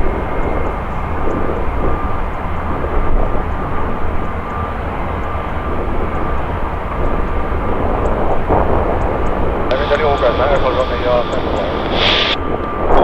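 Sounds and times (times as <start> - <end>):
faint high whine: 0.0 - 13.0
jet engines rumbling: 0.0 - 13.0.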